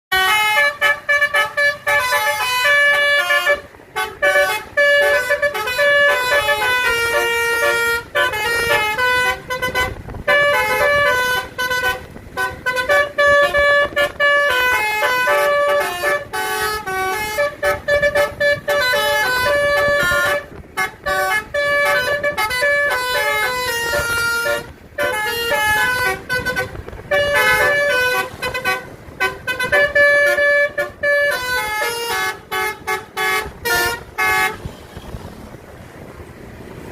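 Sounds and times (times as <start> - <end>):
musical air horn tune: 0.1 - 35.1.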